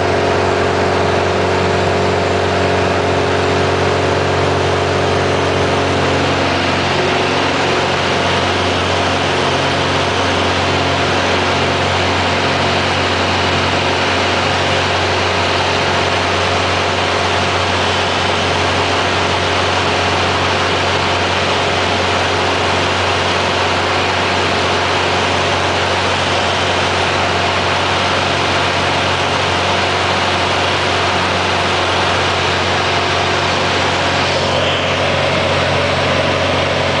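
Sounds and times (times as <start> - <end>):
light plane engine and propeller: 0.0 - 37.0.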